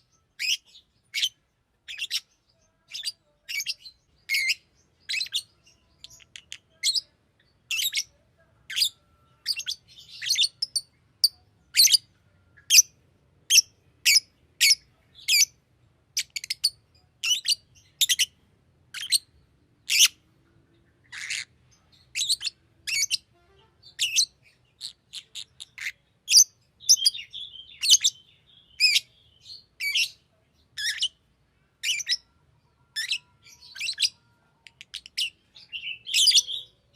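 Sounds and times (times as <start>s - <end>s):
bird high-pitched chirps: 0.0s - 15.6s, 16.2s - 20.2s, 20.9s - 31.2s, 31.8s - 36.9s.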